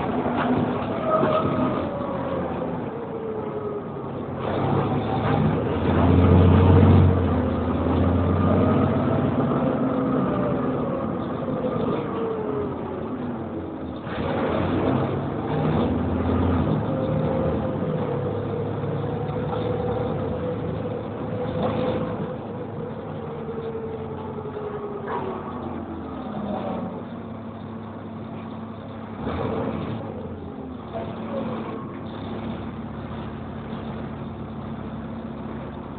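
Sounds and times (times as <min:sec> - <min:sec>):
bus engine humming with whine: 0:00.0 - 0:35.9.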